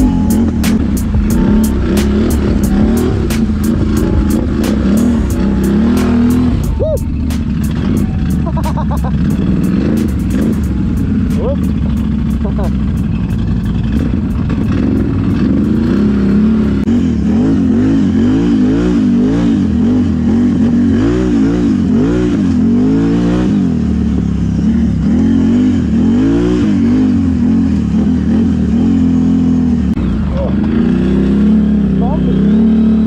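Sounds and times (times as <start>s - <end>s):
atv engine revving: 0.0s - 33.0s.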